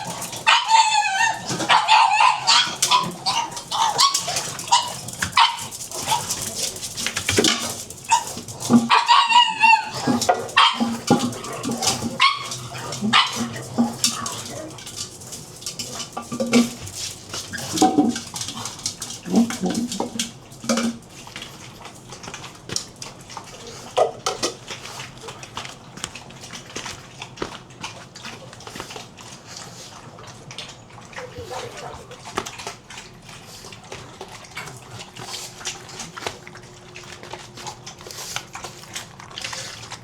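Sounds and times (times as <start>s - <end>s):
dogs barking and whining: 0.0s - 20.8s, 28.2s - 40.0s.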